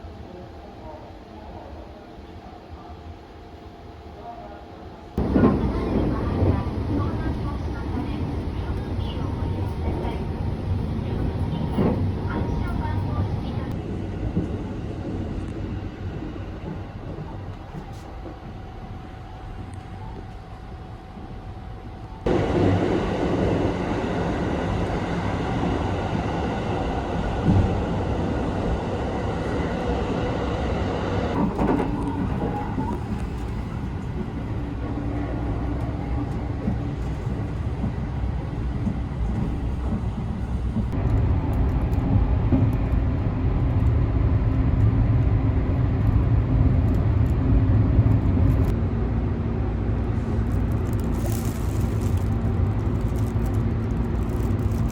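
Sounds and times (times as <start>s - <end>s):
train wheels rumbling on rails: 5.2s - 48.8s, 49.7s - 54.9s.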